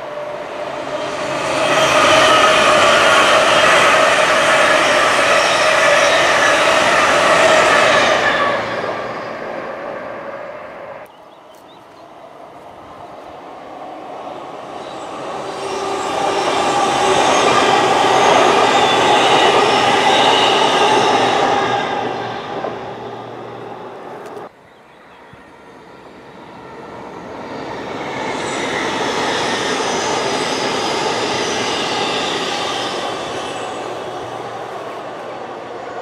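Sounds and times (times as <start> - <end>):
passenger train passing: 0.0 - 36.0.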